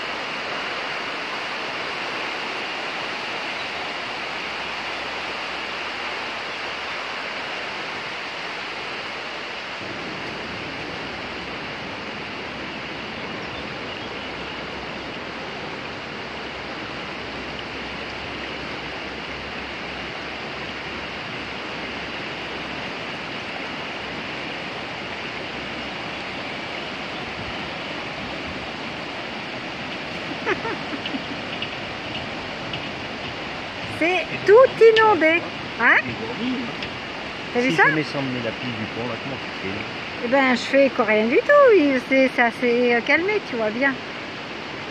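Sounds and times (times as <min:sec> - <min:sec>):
rushing river in flood: 0:00.0 - 0:44.9.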